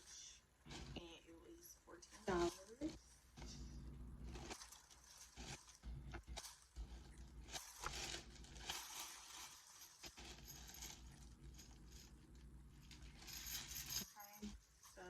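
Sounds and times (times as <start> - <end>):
low steady hum: 0.0 - 15.0
clothing rustling: 2.2 - 15.0.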